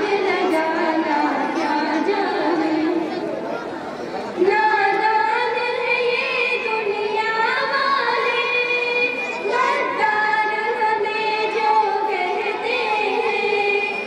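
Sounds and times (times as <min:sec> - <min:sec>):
girls singing into a microphone: 0:00.0 - 0:03.3, 0:04.4 - 0:14.0.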